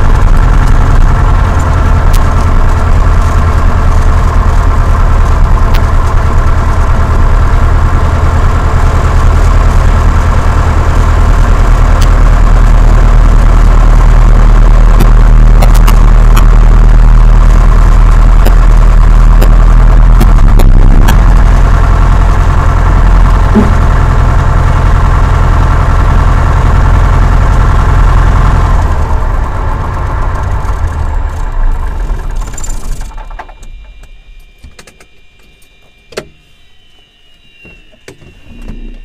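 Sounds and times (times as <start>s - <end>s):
piston engine running and winding down: 0.0s - 34.4s.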